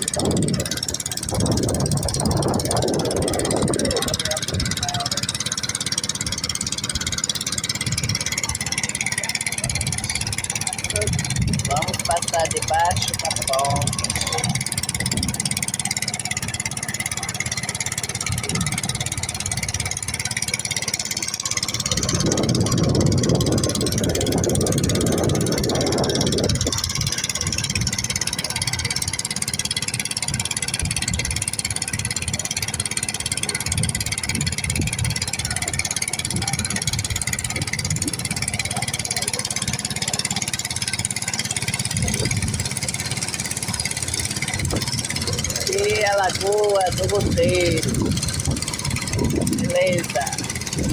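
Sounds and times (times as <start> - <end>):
boat motor running: 0.0 - 50.9
low rapid rattle: 0.0 - 50.9.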